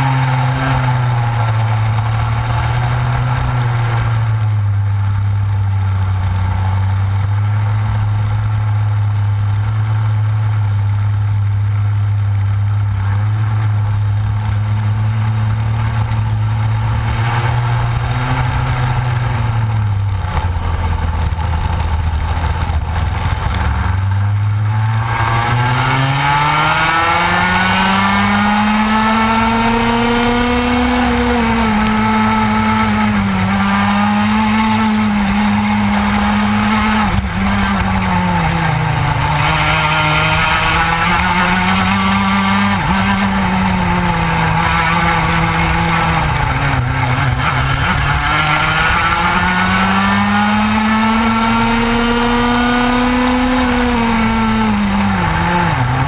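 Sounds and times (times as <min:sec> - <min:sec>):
kart two-stroke engine racing: 0:00.0 - 0:56.0.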